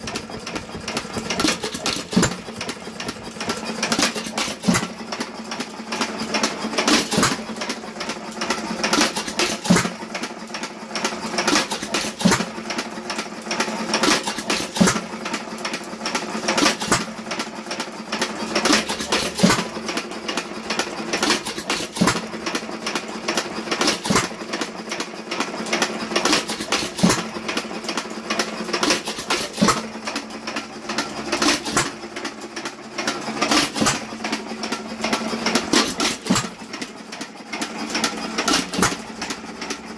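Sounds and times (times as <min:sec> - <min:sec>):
hit-and-miss engine running: 0:00.0 - 0:12.8, 0:13.9 - 0:39.9.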